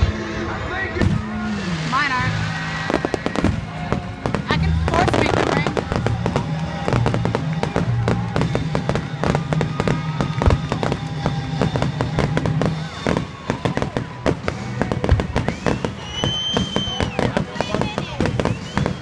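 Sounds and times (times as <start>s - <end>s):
firework whistle: 0.0s - 19.0s
fireworks crackling and banging: 0.0s - 19.0s.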